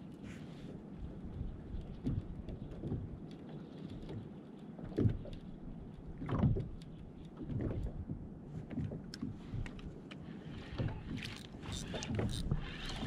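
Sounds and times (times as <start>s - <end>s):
water slapping against a hull: 0.0s - 13.0s.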